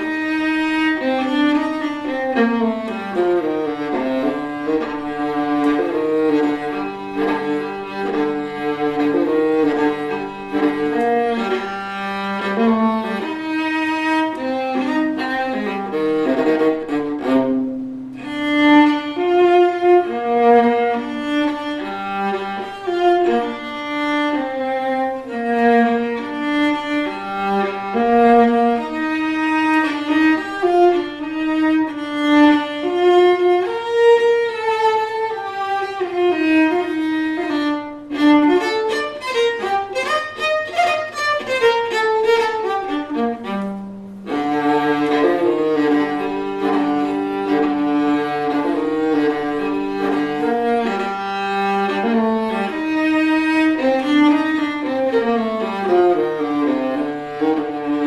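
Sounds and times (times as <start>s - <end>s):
bowed string instrument waltz: 0.0s - 58.0s.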